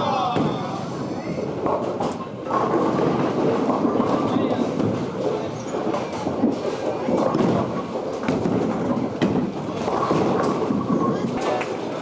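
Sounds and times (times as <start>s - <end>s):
bowling balls rolling: 0.0s - 12.0s.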